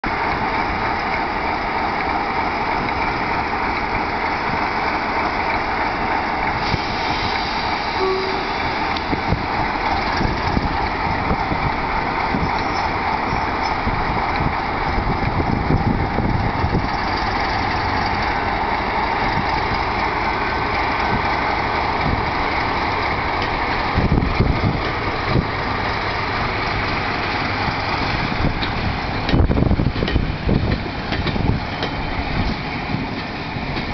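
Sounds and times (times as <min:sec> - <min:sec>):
diesel locomotive engine working: 0:00.0 - 0:33.9.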